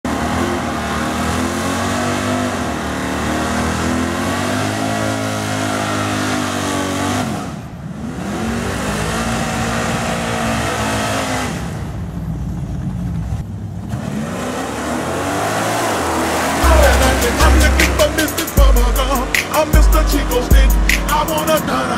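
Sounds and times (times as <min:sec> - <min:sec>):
car engine revving in burnout: 0:00.0 - 0:12.1, 0:13.8 - 0:21.9
second drag car engine: 0:00.0 - 0:21.9.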